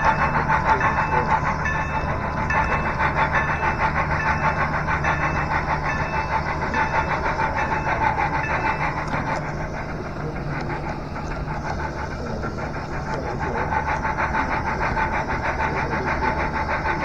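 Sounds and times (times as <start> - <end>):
model train humming: 0.0 - 17.0
rhythmic clicking: 0.0 - 17.0.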